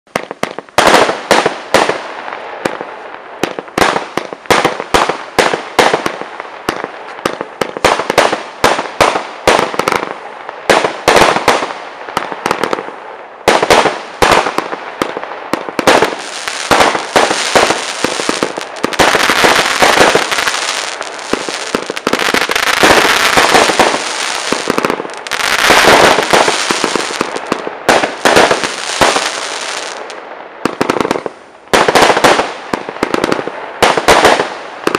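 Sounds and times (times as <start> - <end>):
firework bangs and crackling: 0.1 - 34.9
firework sharp shots: 0.1 - 34.9.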